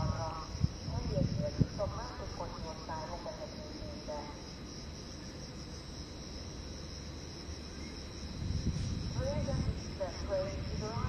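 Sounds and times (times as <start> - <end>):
faint low rumble: 0.0 - 11.0
insects chirring: 0.0 - 11.0.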